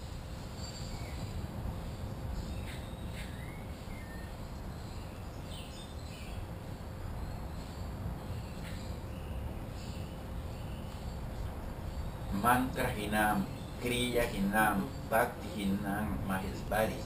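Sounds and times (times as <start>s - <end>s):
low background rumble: 0.0s - 17.0s
birds chirping and whistling: 0.4s - 17.0s.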